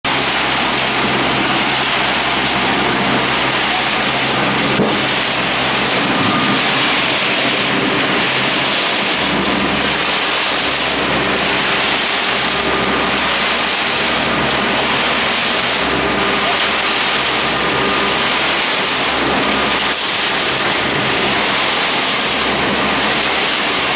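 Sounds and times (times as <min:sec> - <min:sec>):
engine hum: 0:00.0 - 0:23.9.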